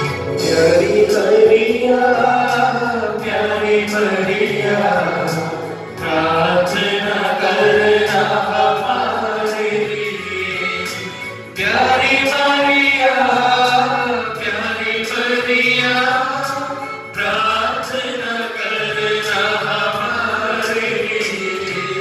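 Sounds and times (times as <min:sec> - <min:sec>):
instrumental accompaniment with beat: 0:00.0 - 0:22.0
group singing a hymn: 0:00.4 - 0:22.0.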